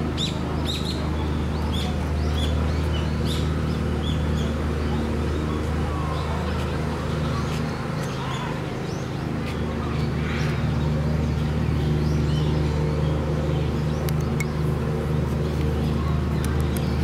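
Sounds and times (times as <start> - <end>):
machinery engine humming: 0.0 - 17.0
small birds chirping: 0.0 - 17.0.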